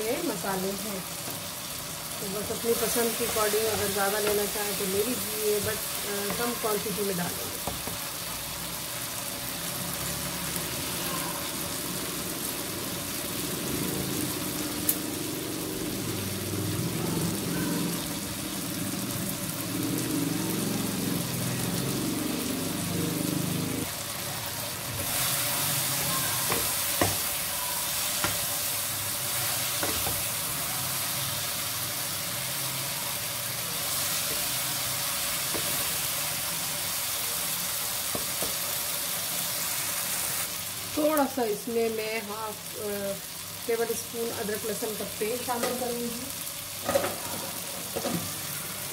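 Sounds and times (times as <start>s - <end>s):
vegetables sizzling in oil: 0.0s - 48.9s.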